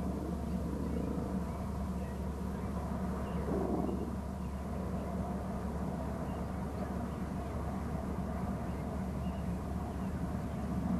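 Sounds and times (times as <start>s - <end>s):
low outdoor rumble: 0.0s - 10.9s.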